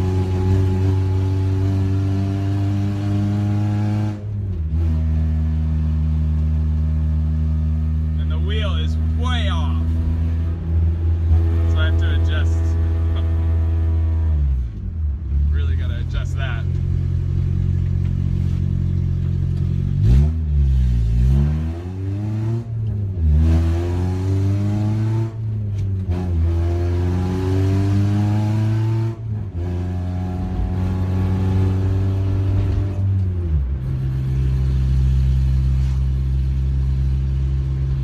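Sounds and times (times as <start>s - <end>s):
car engine revving through gears: 0.0s - 38.0s.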